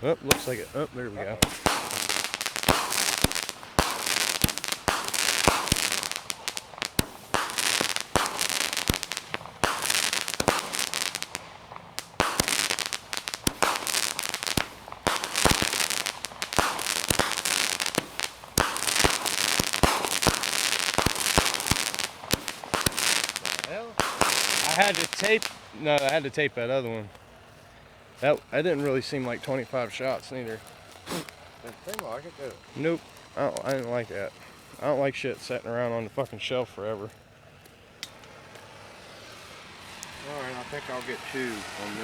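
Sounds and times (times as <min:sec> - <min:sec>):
firework crackling and hissing: 0:00.0 - 0:42.0
firework reports: 0:00.0 - 0:42.0.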